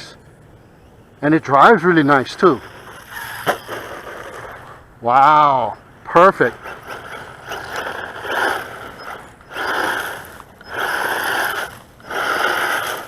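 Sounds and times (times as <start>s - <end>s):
electric motor whining: 0.5s - 13.0s
tyres rattling and scraping over dirt: 1.2s - 13.0s.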